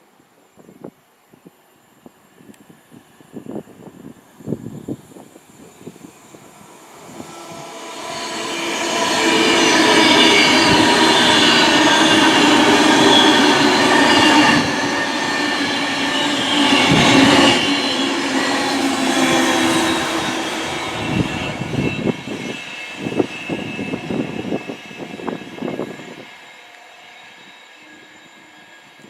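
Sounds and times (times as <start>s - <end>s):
train passing: 1.6s - 29.0s.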